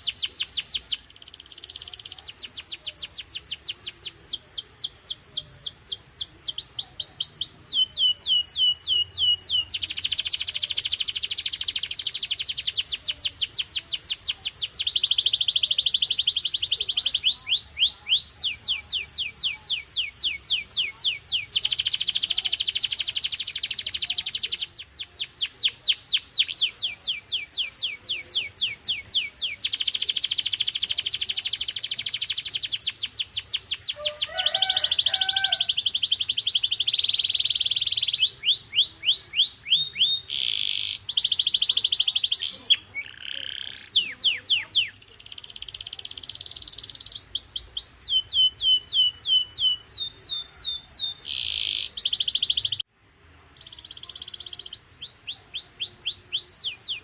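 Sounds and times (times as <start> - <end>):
canary singing: 0.0 - 52.9, 53.5 - 57.0.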